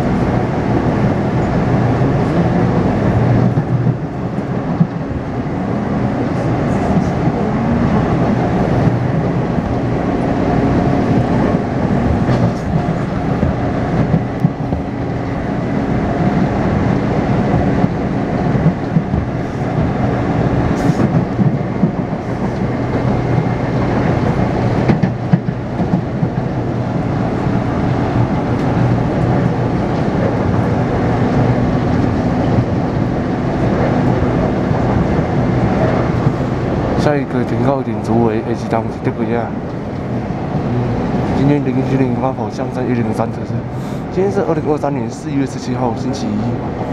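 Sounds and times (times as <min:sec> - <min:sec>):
train wheel and running noise: 0:00.0 - 0:46.9.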